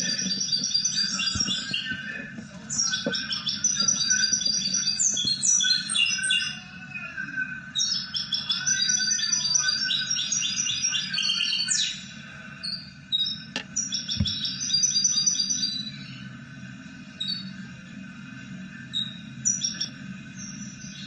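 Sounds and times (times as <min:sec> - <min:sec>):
finch singing: 0:00.0 - 0:12.0, 0:12.7 - 0:16.2, 0:18.9 - 0:21.0.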